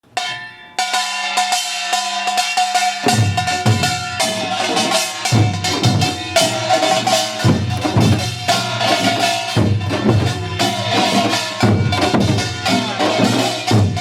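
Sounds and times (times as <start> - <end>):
hourglass drums: 0.1 - 14.0
small gongs clanging: 0.1 - 14.0.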